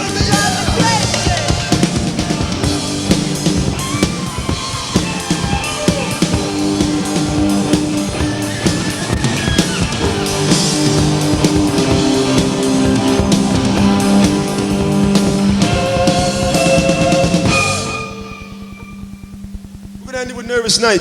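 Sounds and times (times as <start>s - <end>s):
live rock band playing: 0.0s - 19.4s
lead guitar sliding between notes: 0.0s - 20.1s.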